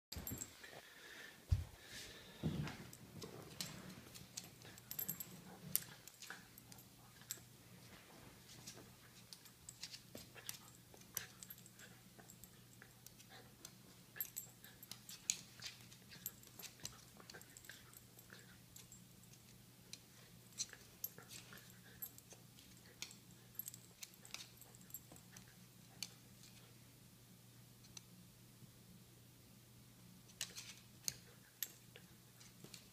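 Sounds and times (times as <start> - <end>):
faint low hum: 0.1 - 32.9.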